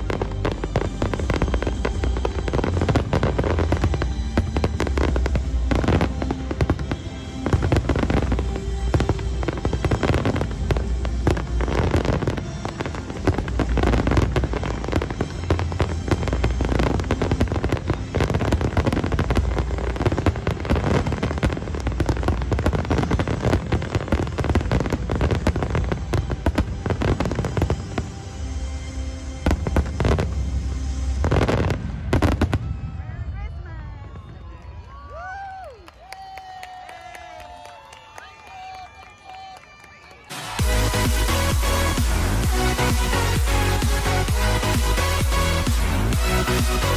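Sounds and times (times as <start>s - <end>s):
music: 0.0s - 34.1s, 38.4s - 46.9s
fireworks bursting and crackling: 0.0s - 38.8s, 39.5s - 46.9s.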